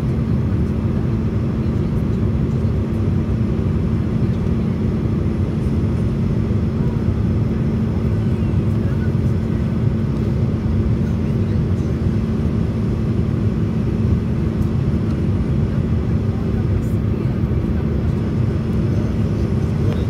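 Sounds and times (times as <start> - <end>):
jet engine rumble and airflow: 0.0 - 20.0
steady cabin hum: 0.0 - 20.0.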